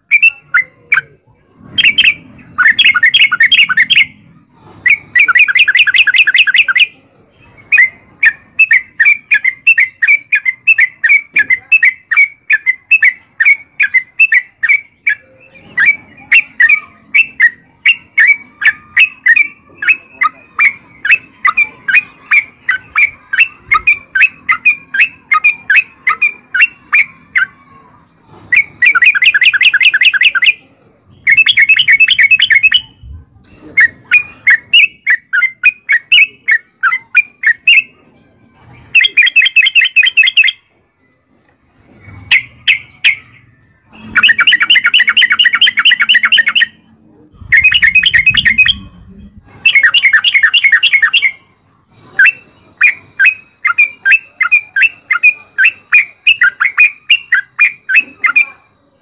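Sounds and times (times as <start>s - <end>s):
bulbul singing rolling song: 0.0s - 58.8s.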